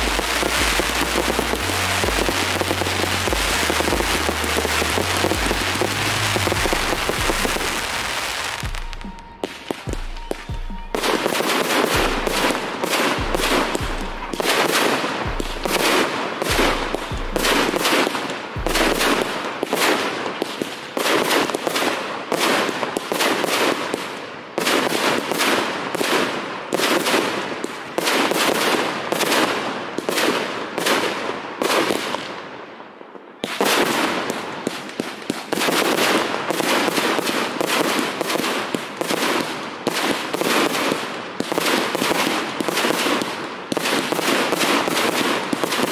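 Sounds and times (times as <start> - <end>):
fireworks bursts and crackling: 0.0 - 45.9.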